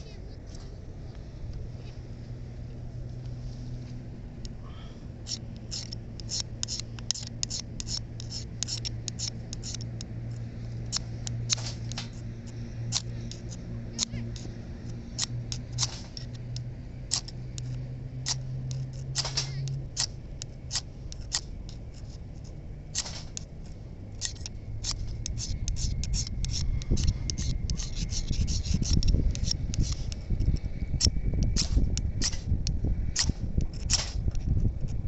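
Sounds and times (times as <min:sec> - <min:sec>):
low rumble: 0:00.0 - 0:35.0
striker scraping fire-starter rod: 0:05.2 - 0:35.0.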